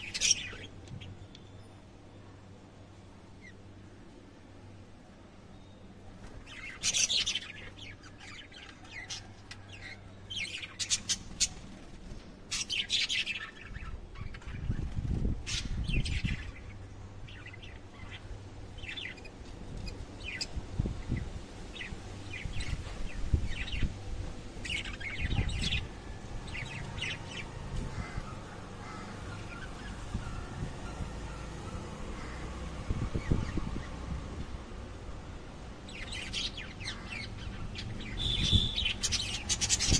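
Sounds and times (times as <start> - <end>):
lovebirds chirping and squawking: 0.0 - 1.7, 6.2 - 34.0, 35.8 - 39.9.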